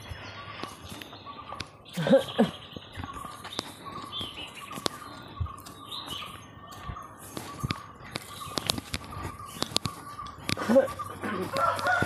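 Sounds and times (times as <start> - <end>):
footsteps on dirt path: 0.0 - 12.0
low bending bird calls: 0.0 - 12.0
small birds chirping: 0.0 - 12.0.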